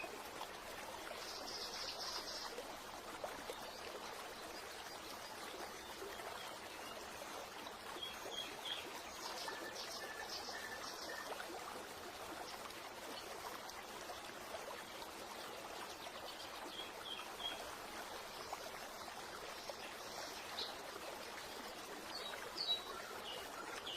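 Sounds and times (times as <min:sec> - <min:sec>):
flowing water rushing: 0:00.0 - 0:23.9.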